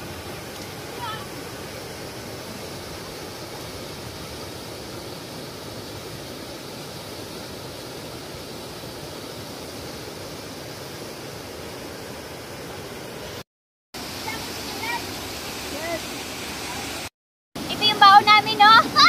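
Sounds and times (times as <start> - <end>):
river water rushing over weir: 0.0 - 13.4, 14.0 - 19.0.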